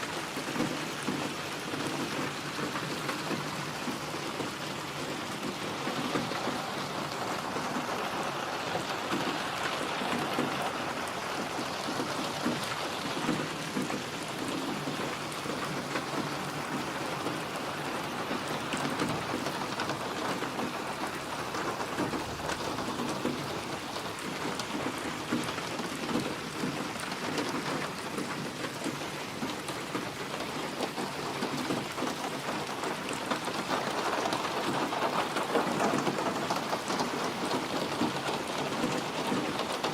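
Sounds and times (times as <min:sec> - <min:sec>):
dense rainfall pattering: 0:00.0 - 0:39.9.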